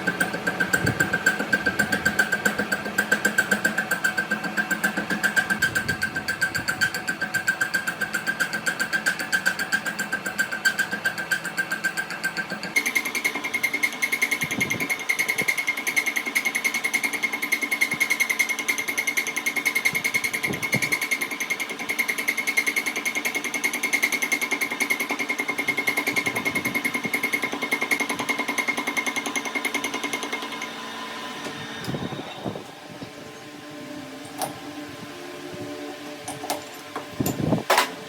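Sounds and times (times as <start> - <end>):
machine tool rhythmic clatter: 0.0 - 31.0
machine high whine: 0.0 - 38.0.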